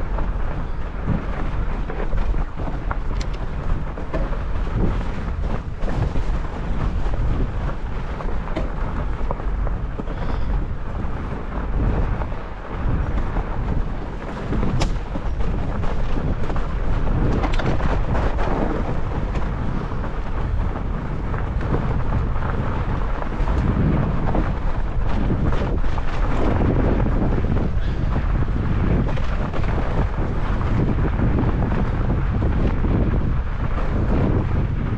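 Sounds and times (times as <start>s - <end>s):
bike clicks and rattles: 0.0s - 34.9s
fat tyres rolling on snow: 0.0s - 34.9s
wind buffeting microphone: 0.0s - 34.9s.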